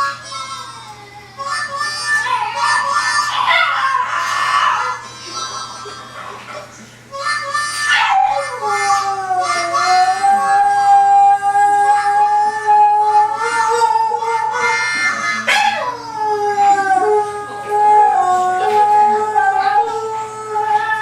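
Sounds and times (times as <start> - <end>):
harmonica music: 0.0 - 21.0
dog howling: 1.4 - 21.0.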